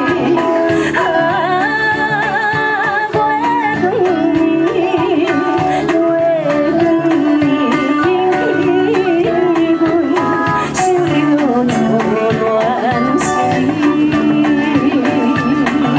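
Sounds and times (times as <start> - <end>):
live band playing: 0.0 - 15.9
woman singing into a microphone: 0.0 - 15.9.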